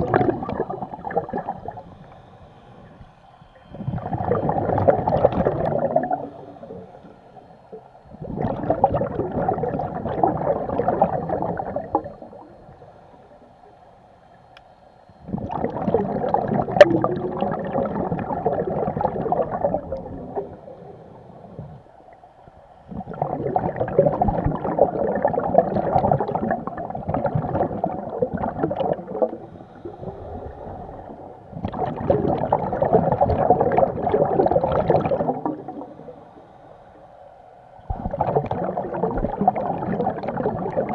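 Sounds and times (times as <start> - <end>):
bubbles gurgling underwater: 0.0 - 2.1, 3.7 - 7.2, 8.1 - 12.8, 15.3 - 21.8, 22.9 - 36.2, 37.9 - 40.9.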